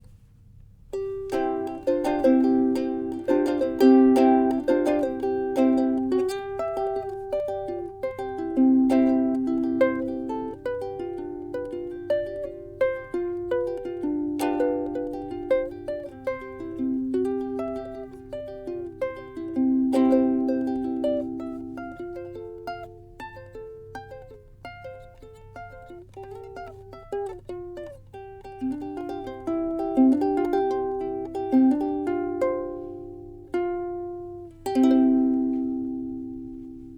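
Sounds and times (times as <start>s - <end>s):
ukulele plucked and strummed: 0.7s - 36.9s.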